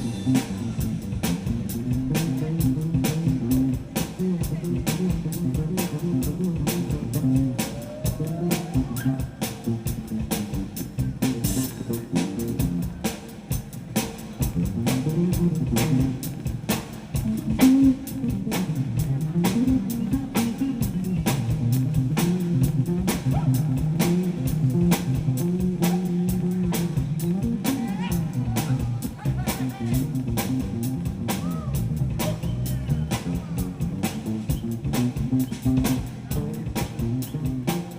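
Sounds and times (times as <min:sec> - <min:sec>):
bass guitar: 0:00.0 - 0:37.9
guitar: 0:00.0 - 0:37.9
steady drum beat: 0:00.0 - 0:37.9.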